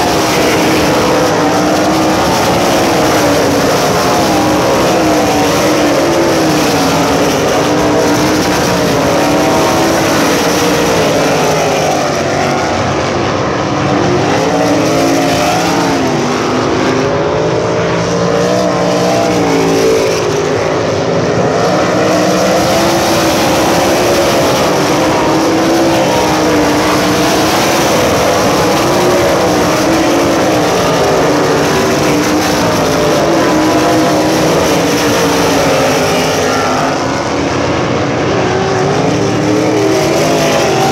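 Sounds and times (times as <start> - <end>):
race car engines: 0.0 - 40.9.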